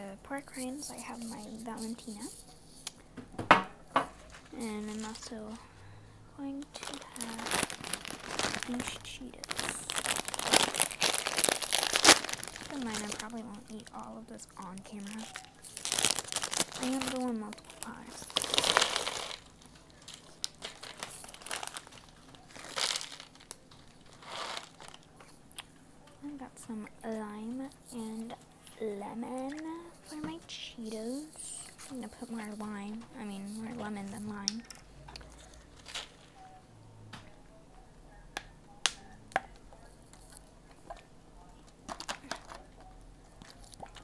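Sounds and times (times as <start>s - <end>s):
crinkly snack bag rustling: 0.4s - 2.9s, 4.1s - 25.4s, 26.7s - 36.5s, 41.9s - 44.0s.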